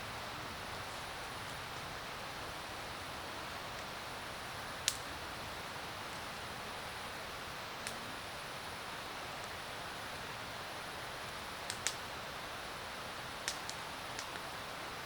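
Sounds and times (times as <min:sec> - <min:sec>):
fire crackling pops: 0:00.0 - 0:14.8
campfire hissing: 0:00.0 - 0:15.0.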